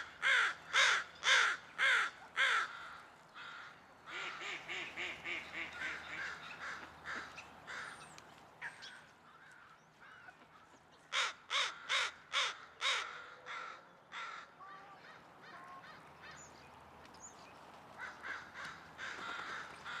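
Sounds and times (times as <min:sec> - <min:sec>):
crows cawing: 0:00.0 - 0:16.6, 0:17.9 - 0:20.0
loud caws of a nearby crow: 0:00.0 - 0:16.6, 0:17.9 - 0:20.0.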